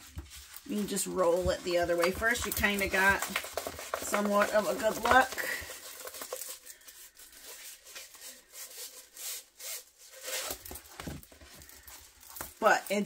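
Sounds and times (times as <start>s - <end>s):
plastic film rubbing and rustling: 0.0s - 13.0s.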